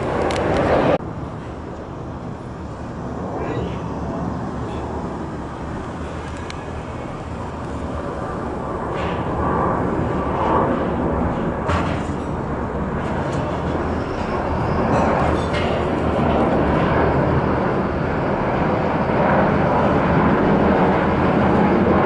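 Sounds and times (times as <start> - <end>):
jet flying low overhead: 0.0 - 22.0.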